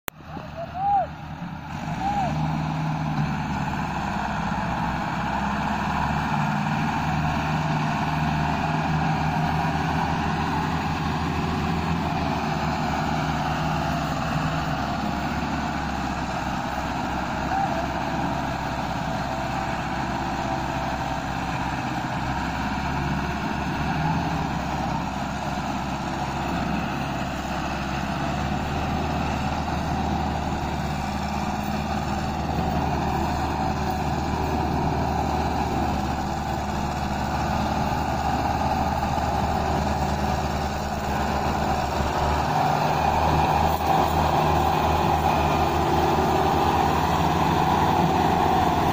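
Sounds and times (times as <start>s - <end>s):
tractor diesel engine running: 0.1s - 48.9s.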